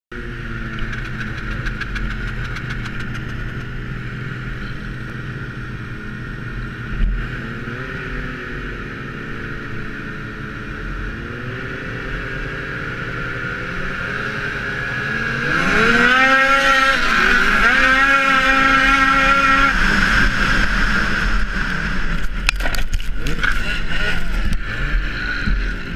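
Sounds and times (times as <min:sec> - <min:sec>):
snowmobile engines idling and revving: 0:00.1 - 0:25.9.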